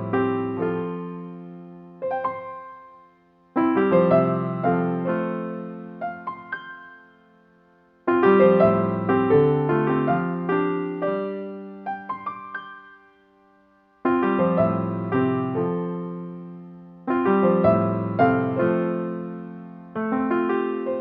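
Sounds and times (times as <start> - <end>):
easy-listening piano chords: 0.0 - 21.0.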